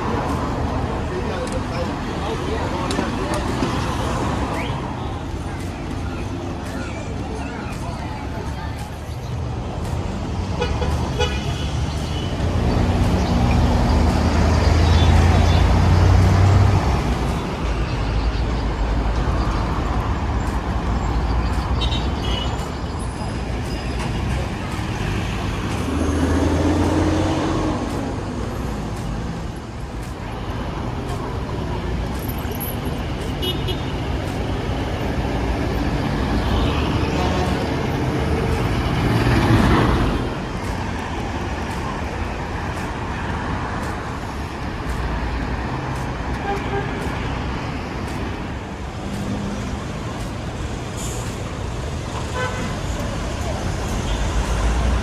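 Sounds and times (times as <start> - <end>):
traffic engine rumble: 0.0 - 55.0
tyres on the road: 0.0 - 55.0.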